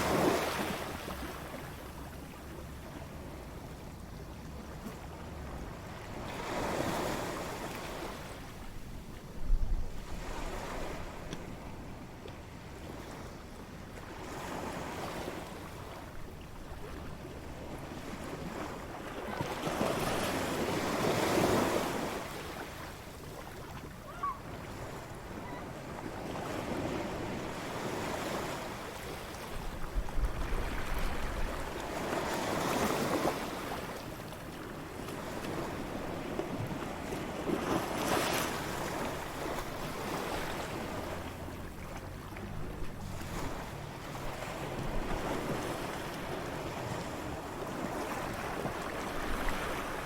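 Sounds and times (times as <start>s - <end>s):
light wind: 0.0s - 50.0s
waves breaking on beach: 0.0s - 50.0s.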